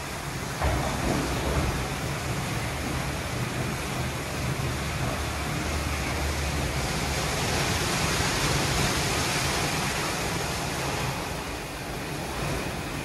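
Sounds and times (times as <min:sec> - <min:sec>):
car wash spraying water: 0:00.0 - 0:13.0
low hum of motors and pumps: 0:00.0 - 0:13.0.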